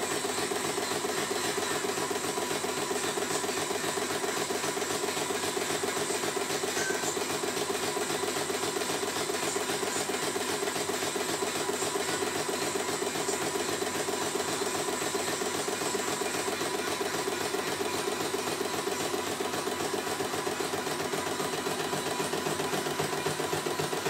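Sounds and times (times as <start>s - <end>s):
embroidery machine stitching: 0.0s - 24.0s.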